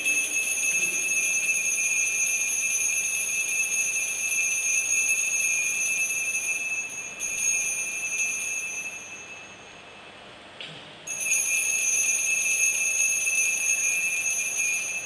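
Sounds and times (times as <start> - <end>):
high-pitched bell ringing: 0.0 - 9.8, 11.1 - 15.0.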